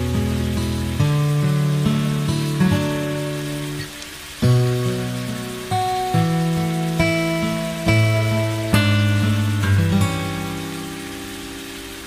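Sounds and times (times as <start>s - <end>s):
liver sizzling in a pan: 0.0s - 12.0s.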